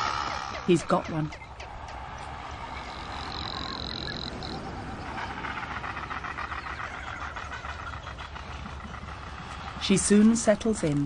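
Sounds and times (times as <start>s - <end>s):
birds rattling warble: 0.0s - 11.0s.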